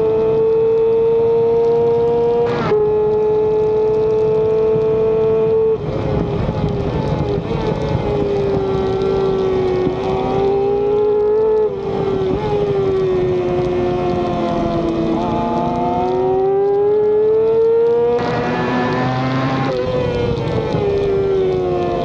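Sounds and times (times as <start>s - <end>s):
race motorcycle engine revving high: 0.0s - 6.1s, 8.2s - 22.0s
wind noise: 0.0s - 22.0s.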